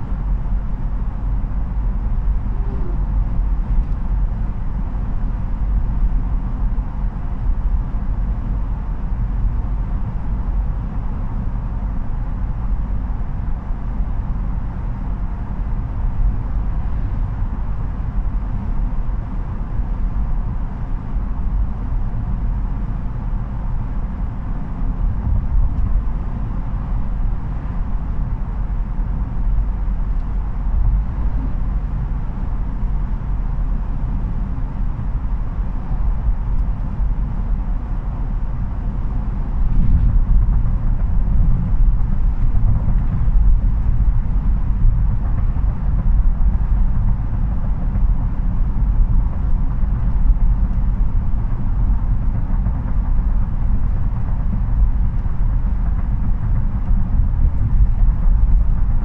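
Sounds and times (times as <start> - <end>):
pickup cabin engine and tyre drone: 0.0 - 59.0.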